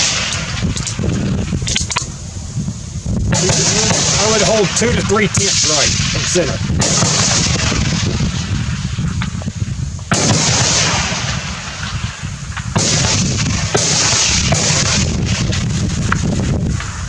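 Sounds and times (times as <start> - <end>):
rifle shots: 0.0 - 2.1, 3.3 - 17.0
wind rumble on microphone: 0.0 - 17.0.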